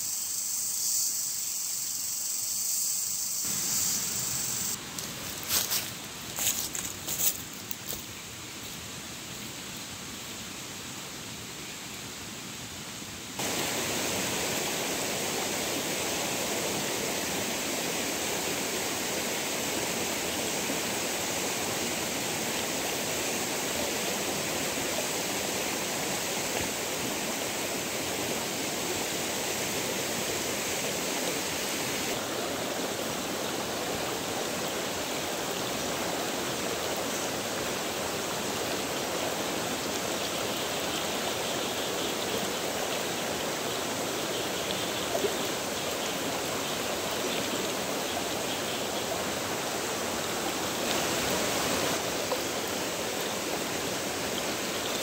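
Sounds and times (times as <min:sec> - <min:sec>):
stream water rushing: 0:03.4 - 0:55.0.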